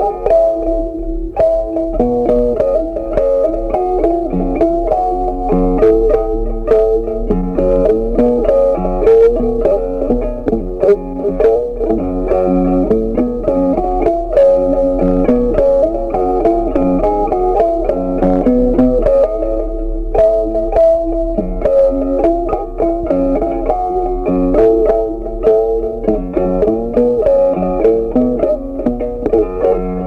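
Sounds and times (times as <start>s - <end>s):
bass line: 0.0s - 30.0s
plucked string melody: 0.0s - 30.0s.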